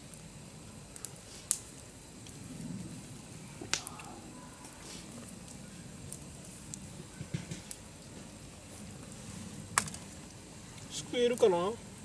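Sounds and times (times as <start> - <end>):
campfire crackling and popping: 0.0 - 12.0
low steady hiss: 0.0 - 12.0.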